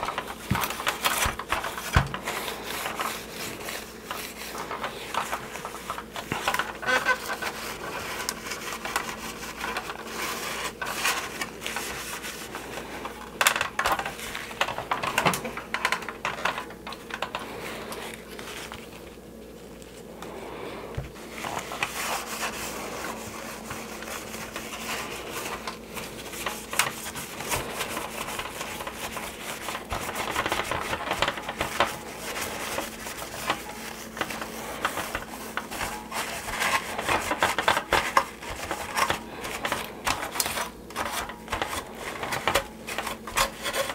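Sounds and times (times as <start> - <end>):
rag rubbing on hard plastic: 0.0 - 13.1, 21.0 - 43.9.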